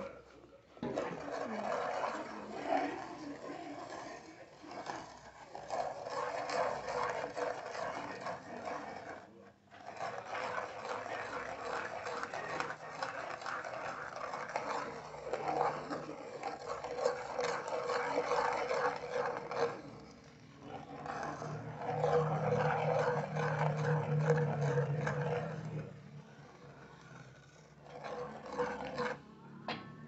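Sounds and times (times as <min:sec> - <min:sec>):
wooden spoon scraping a pot: 0:00.0 - 0:29.4.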